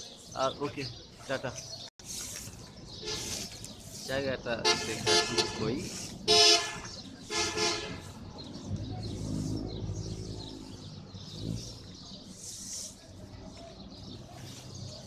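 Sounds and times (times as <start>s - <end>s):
sparrows chirping: 0.0s - 15.0s
vehicle engine rumbling: 2.0s - 15.0s.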